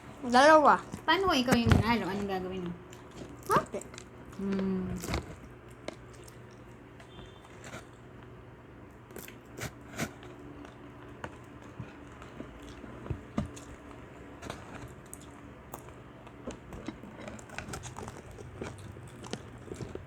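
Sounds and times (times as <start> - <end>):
crunchy bites and chewing: 2.8 - 20.0.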